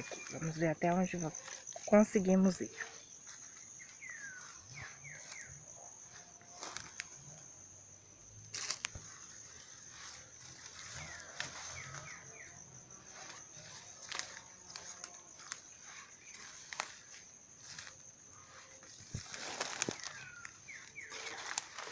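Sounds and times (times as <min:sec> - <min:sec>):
footsteps through undergrowth: 0:00.0 - 0:07.4, 0:08.4 - 0:21.9
high-pitched insect drone: 0:00.0 - 0:21.9.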